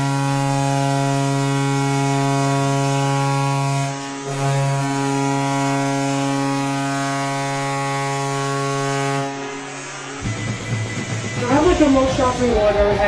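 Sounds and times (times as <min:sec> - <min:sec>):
hockey goal horn blaring: 0:00.0 - 0:12.6.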